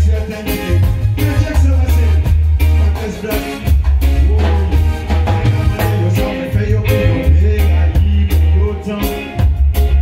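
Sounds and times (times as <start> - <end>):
heavy bass line: 0.0 - 10.0
live reggae band playing: 0.0 - 10.0.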